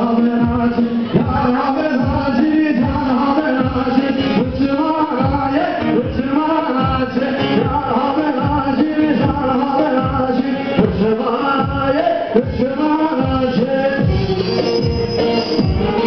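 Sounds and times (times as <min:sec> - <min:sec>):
dance music with singing: 0:00.0 - 0:16.0
deep drum beat: 0:00.4 - 0:16.0.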